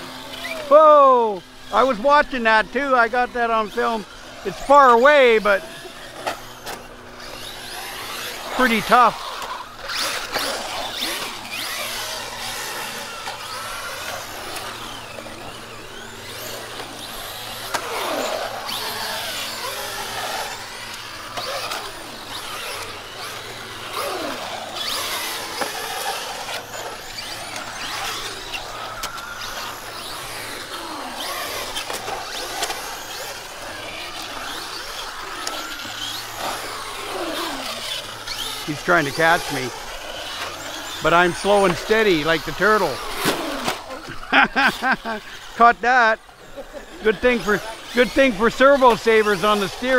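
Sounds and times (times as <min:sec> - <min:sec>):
electric motors whining: 0:00.0 - 0:49.9.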